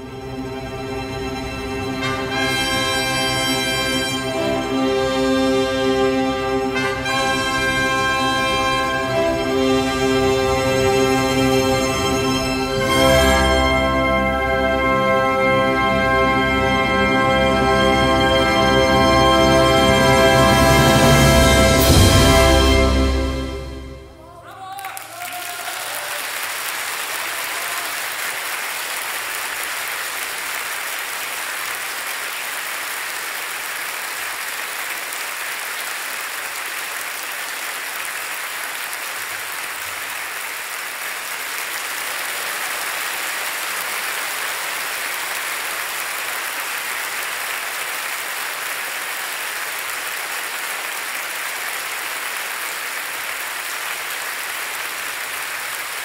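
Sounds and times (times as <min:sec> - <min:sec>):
audience applauding: 0:01.8 - 0:56.0.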